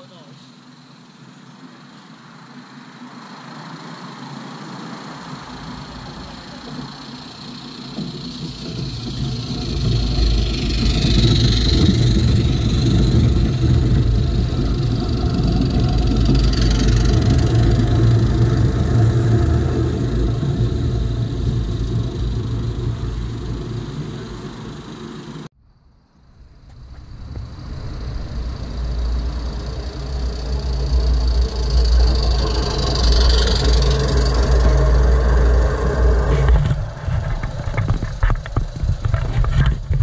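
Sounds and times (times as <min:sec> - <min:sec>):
miniature train wheels rumbling: 0:05.3 - 0:25.5, 0:26.7 - 0:40.0.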